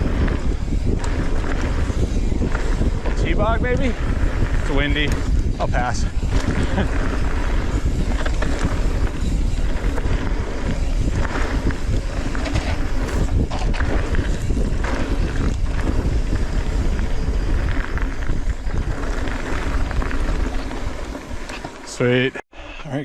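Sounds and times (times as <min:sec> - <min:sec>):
wind buffeting microphone: 0:00.0 - 0:21.6
bike tyre and frame rattle: 0:00.0 - 0:22.3.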